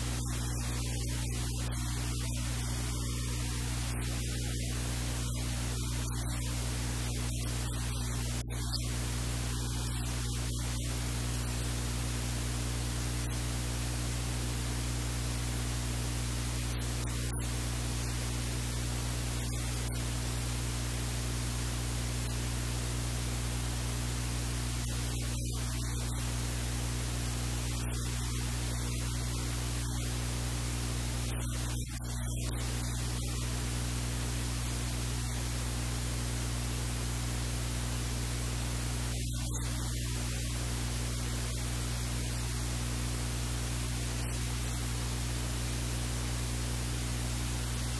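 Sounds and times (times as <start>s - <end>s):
electrical hiss: 0.0s - 47.9s
low electrical hum: 0.0s - 47.9s.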